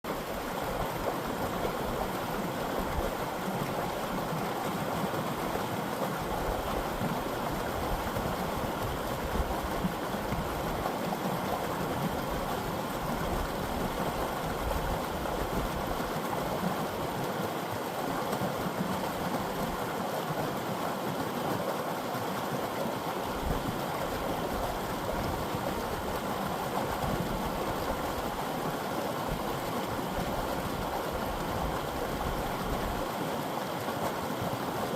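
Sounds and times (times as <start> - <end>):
creek water flowing: 0.1 - 34.9.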